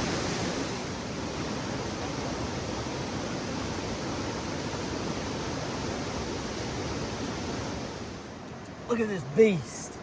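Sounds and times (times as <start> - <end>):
creek rapids rushing: 0.0 - 10.0.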